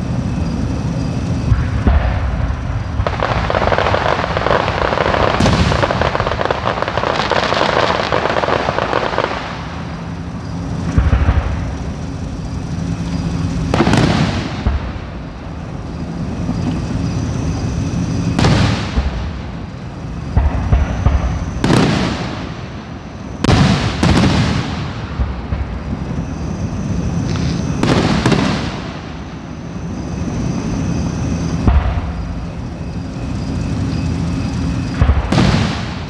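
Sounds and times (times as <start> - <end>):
distant fireworks booms: 0.0 - 36.0.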